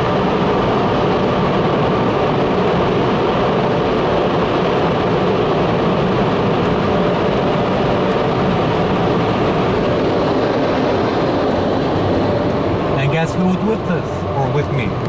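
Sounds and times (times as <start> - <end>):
car wash dryer blowers rushing air: 0.0 - 15.0.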